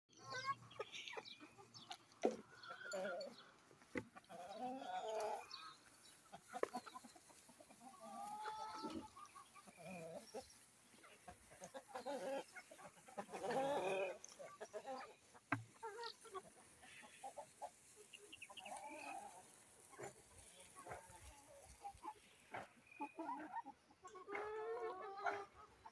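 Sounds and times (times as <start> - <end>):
chickens clucking: 0.1 - 25.9.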